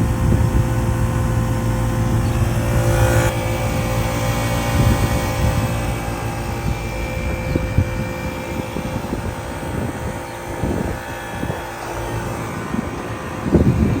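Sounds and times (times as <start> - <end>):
hvac fan and compressor hum: 0.0 - 14.0
low rumble: 0.0 - 14.0.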